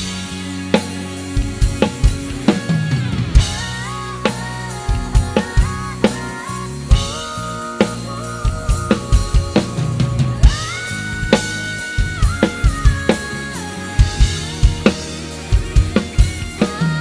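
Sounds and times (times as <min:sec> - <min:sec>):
drum kit playing: 0:00.0 - 0:17.0
pop backing track: 0:00.0 - 0:17.0.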